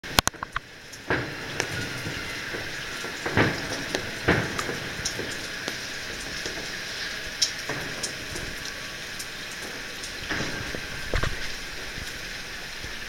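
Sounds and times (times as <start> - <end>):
crackling hiss with sharp cracks: 0.0 - 13.0.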